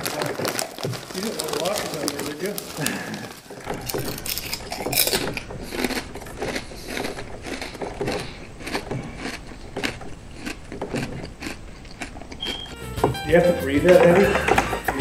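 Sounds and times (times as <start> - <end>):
chip bag crinkling and rustling: 0.0 - 12.5.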